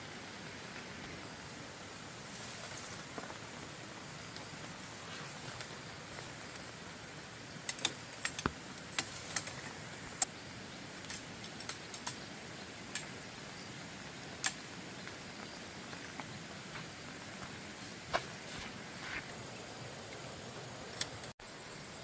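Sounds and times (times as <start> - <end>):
rain hissing: 0.0 - 22.0.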